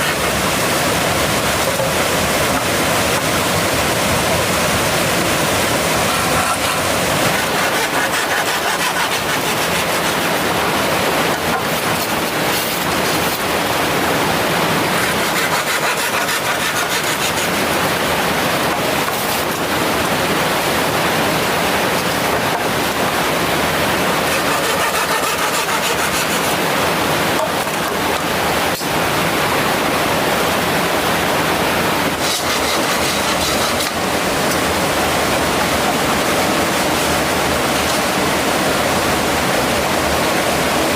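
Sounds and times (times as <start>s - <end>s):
mountain stream water rushing: 0.0s - 40.9s.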